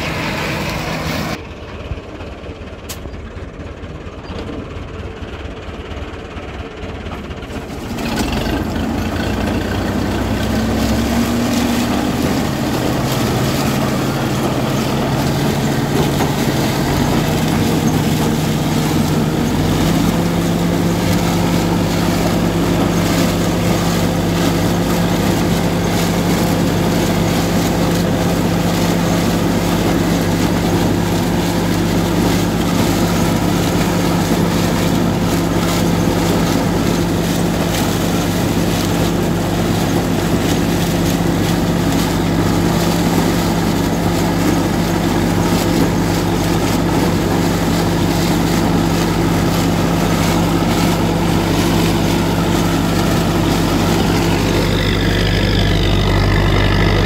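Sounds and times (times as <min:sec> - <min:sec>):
tractor diesel engine under load: 0:00.0 - 0:57.0
corn picker clattering: 0:07.0 - 0:57.0.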